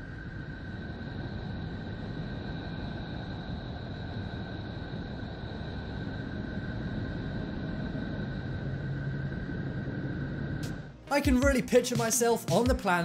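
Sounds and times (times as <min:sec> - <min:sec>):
low rumble: 0:00.0 - 0:11.6
static-like hiss: 0:00.0 - 0:13.0.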